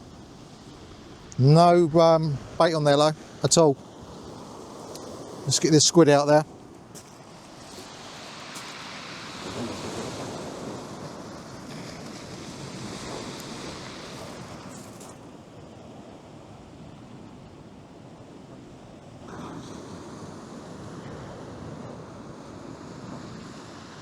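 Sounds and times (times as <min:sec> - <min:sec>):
sea waves breaking on beach: 0:00.0 - 0:24.0
wind buffeting microphone: 0:00.0 - 0:24.0.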